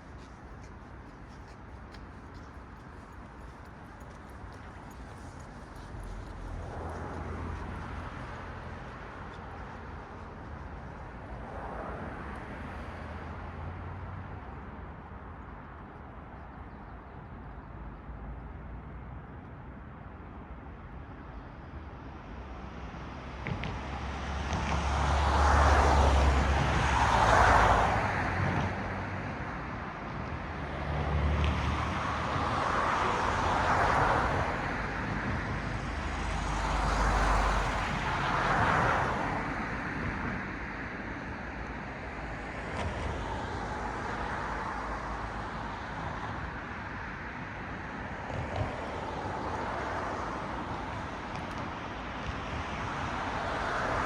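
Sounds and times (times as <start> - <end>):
cars passing on road: 0.0 - 54.0
traffic hum: 0.0 - 54.0.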